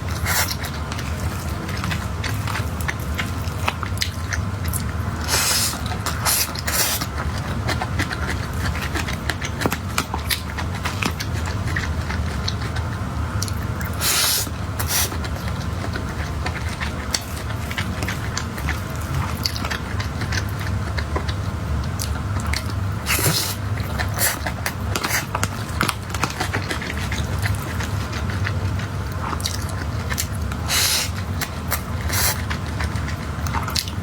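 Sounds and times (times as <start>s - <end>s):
steady low hum: 0.0s - 34.0s
chewing and wet mouth clicks: 0.2s - 13.9s, 14.8s - 34.0s.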